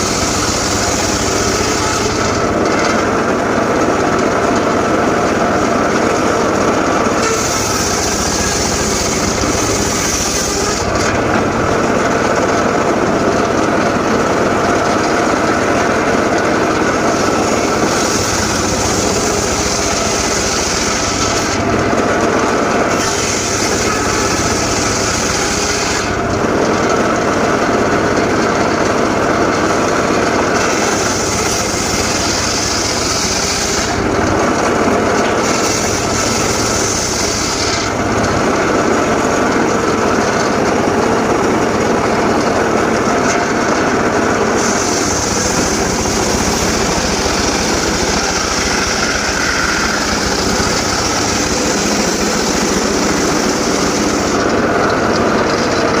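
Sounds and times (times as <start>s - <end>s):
circular saw cutting wood: 0.0s - 56.0s
engine running: 0.0s - 56.0s.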